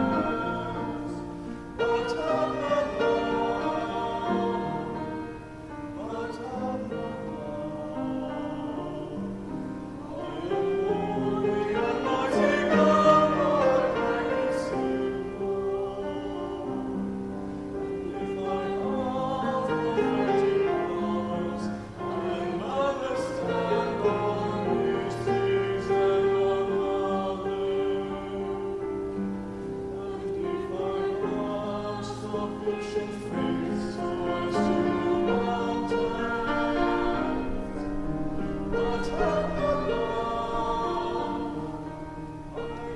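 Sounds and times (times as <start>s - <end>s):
church choir singing: 0.0s - 42.9s.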